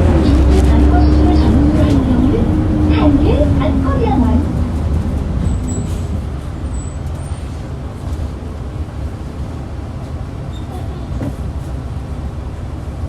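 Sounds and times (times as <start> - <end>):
bus engine rumble inside cabin: 0.0 - 13.0.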